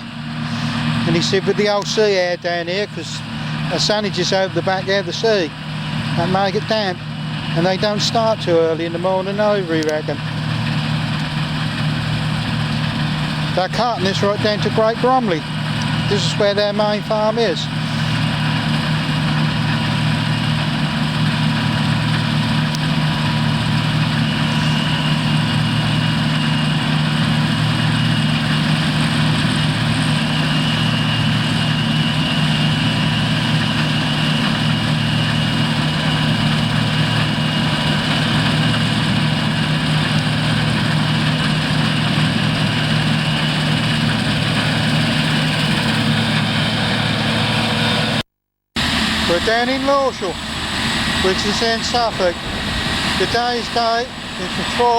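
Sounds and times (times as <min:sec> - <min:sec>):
diesel engine running: 0:00.0 - 0:48.2, 0:48.8 - 0:54.9
high whine: 0:00.0 - 0:48.2, 0:48.8 - 0:54.9.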